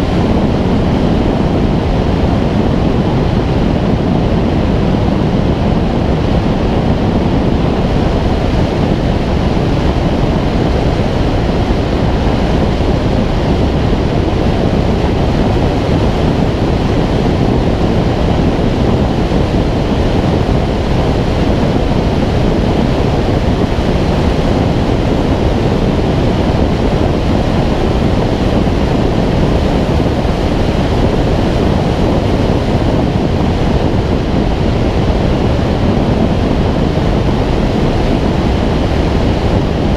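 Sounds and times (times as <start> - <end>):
loud wind noise: 0.0 - 39.9.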